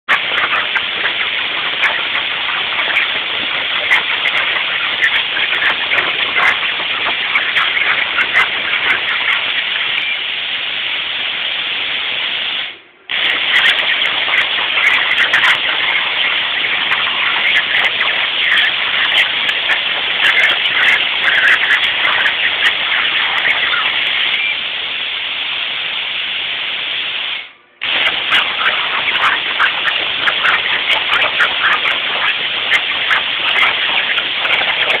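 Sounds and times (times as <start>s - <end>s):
plasma torch hissing and crackling: 0.0s - 35.0s.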